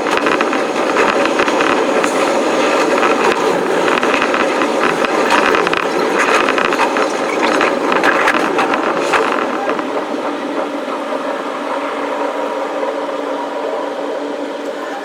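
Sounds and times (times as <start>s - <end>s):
train wheels clattering over rail joints: 0.0s - 13.4s
train rumbling: 0.0s - 15.0s.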